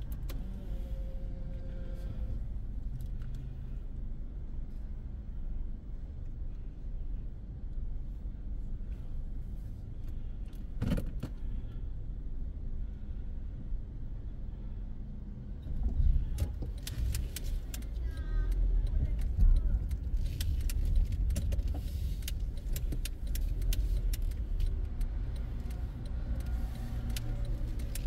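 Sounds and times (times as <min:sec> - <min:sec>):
car engine rumble from cabin: 0:00.0 - 0:28.0.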